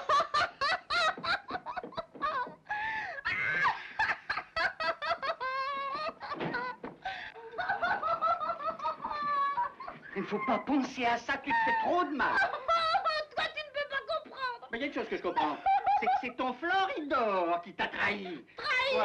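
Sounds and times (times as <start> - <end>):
woman sobbing and wailing: 0.1 - 10.7, 11.4 - 16.3.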